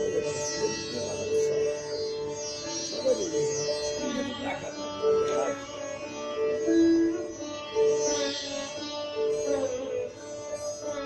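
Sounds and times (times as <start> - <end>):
sitar note ringing: 0.0 - 11.0
tanpura drone: 0.0 - 11.0.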